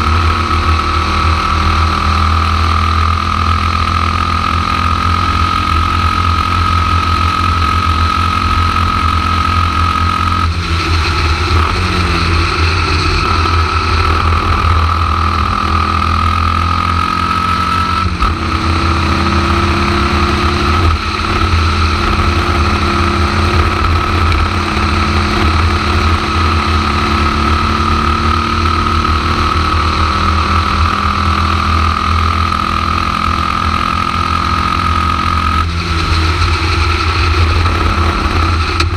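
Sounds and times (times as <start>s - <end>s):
racing car engine running hard: 0.0s - 38.9s.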